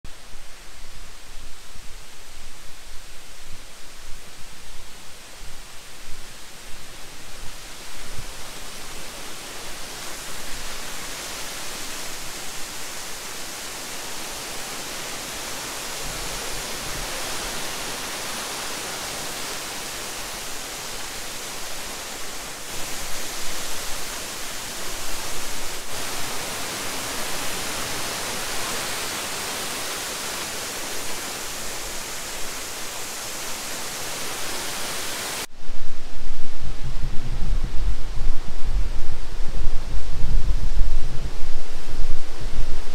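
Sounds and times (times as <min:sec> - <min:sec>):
waterfall rushing: 0:00.2 - 0:35.5.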